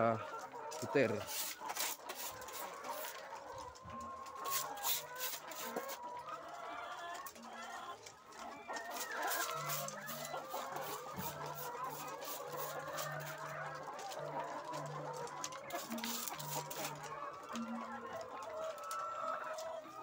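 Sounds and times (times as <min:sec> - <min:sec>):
hens clucking and calling: 0:00.0 - 0:20.0.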